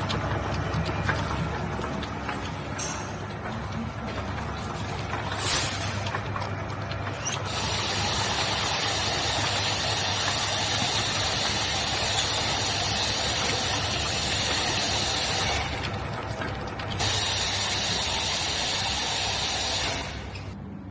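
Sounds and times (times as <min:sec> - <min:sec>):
low machine hum: 0:00.0 - 0:20.9.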